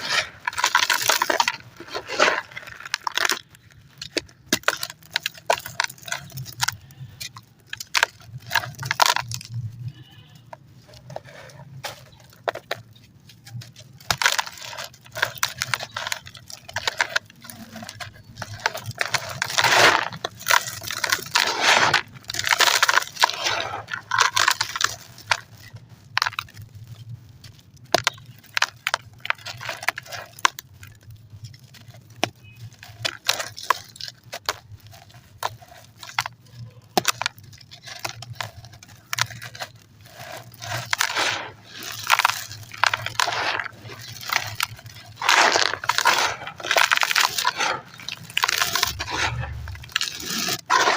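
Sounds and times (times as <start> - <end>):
concrete crumbled by hand: 0.0 - 50.9.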